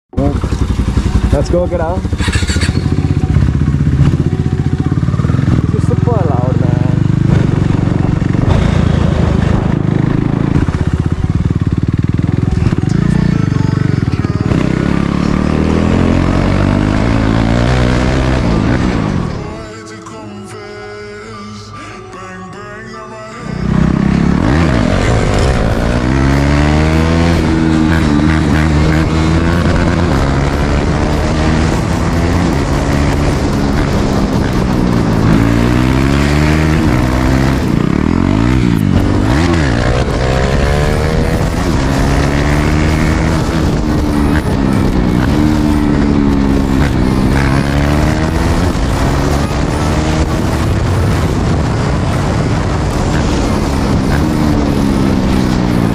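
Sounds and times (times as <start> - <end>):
motorcycle engine revving: 0.1 - 19.8, 23.4 - 55.9.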